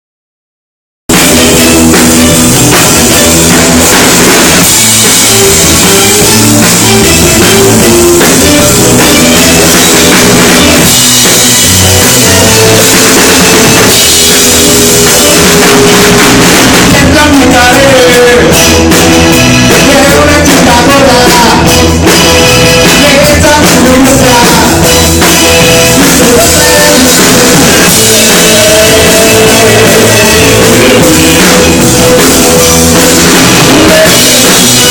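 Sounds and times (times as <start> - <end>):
rock music: 1.1 - 34.9
person singing: 4.6 - 34.9.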